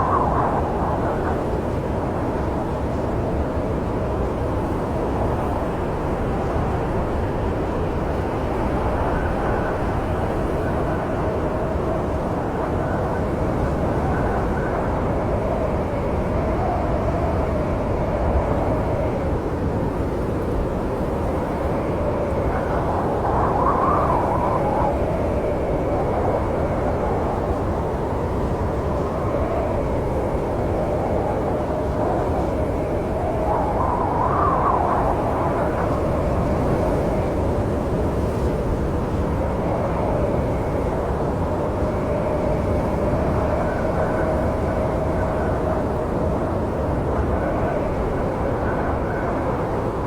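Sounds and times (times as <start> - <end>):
snowstorm wind howling: 0.0 - 50.0.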